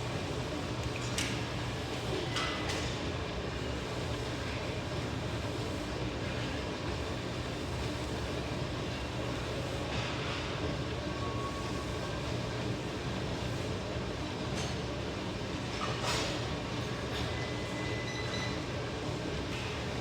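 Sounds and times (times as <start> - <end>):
cardio machine humming and rushing: 0.0 - 20.0.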